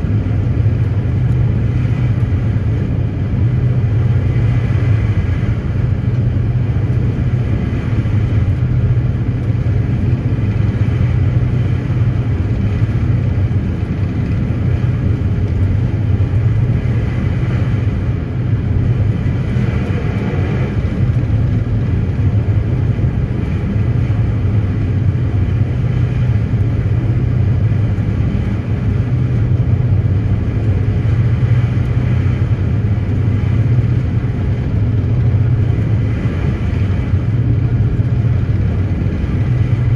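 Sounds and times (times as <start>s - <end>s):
ferry engines droning: 0.0s - 39.9s
rushing noise: 1.1s - 39.9s.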